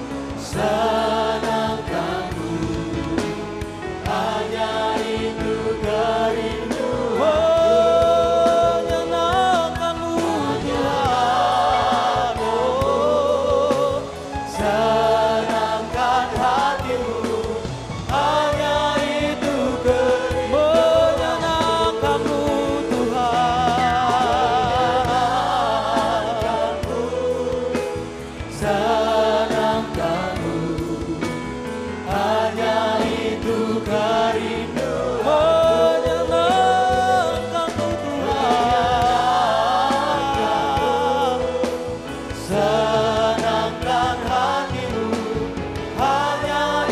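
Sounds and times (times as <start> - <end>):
band accompaniment: 0.0 - 46.9
congregation singing worship song: 0.0 - 46.9.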